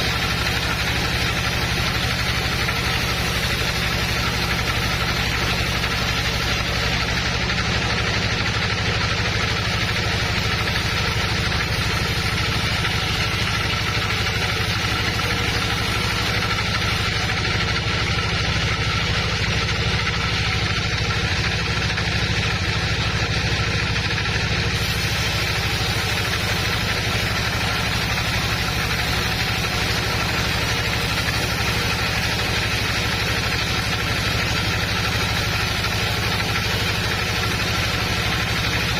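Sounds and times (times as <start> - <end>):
woodworking machinery running: 0.0 - 38.9.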